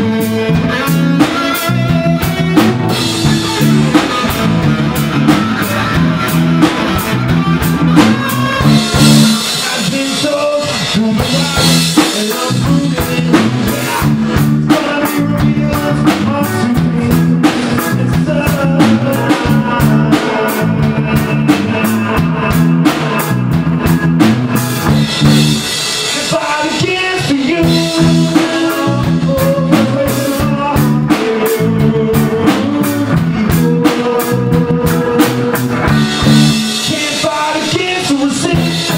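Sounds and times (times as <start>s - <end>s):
man singing: 0.0s - 38.9s
rock band playing: 0.0s - 38.9s.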